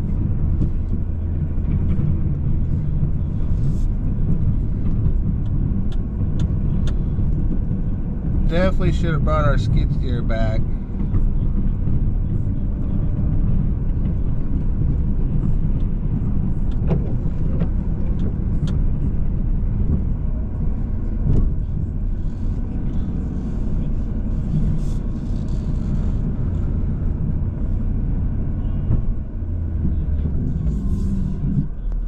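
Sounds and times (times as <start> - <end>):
pickup engine running under load: 0.0 - 32.0.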